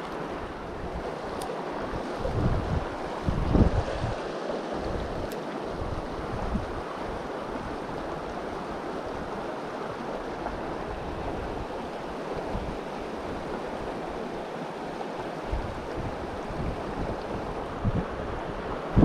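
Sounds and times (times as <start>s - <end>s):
river water running over rocks: 0.0s - 19.0s
wind buffeting microphone: 0.0s - 19.0s.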